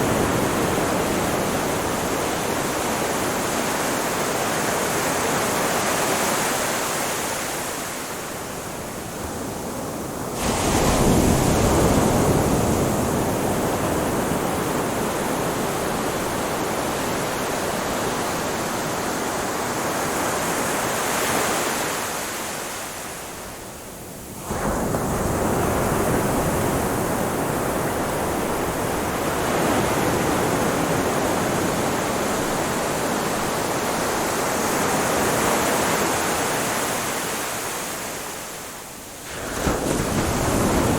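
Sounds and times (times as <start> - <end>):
ocean waves washing onto beach: 0.0 - 40.9.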